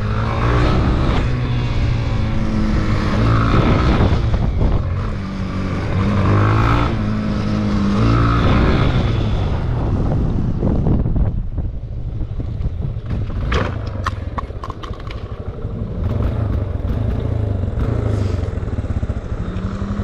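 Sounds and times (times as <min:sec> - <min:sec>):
motorcycle engine revving: 0:00.0 - 0:11.0, 0:12.6 - 0:20.0
wind rushing over microphone: 0:00.0 - 0:19.3.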